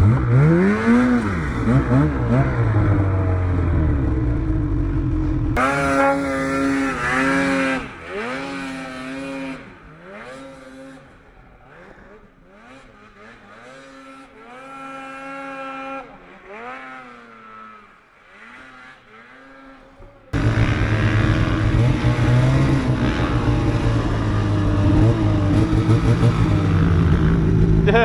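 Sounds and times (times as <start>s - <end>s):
loud snowmobile engine at high revs: 0.0s - 28.0s
snowmobile engine revving: 0.0s - 28.0s.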